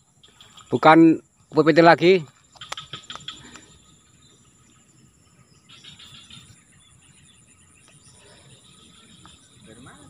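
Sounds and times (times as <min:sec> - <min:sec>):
high-pitched insect trilling: 0:00.0 - 0:10.0.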